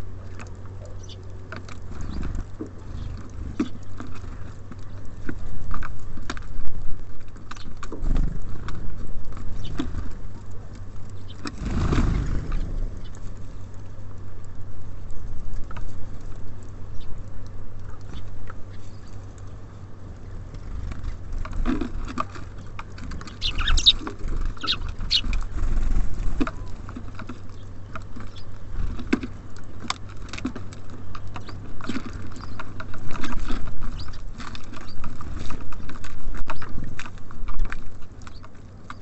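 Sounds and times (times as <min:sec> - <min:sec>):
birds pecking at a feeder: 0:00.0 - 0:39.0.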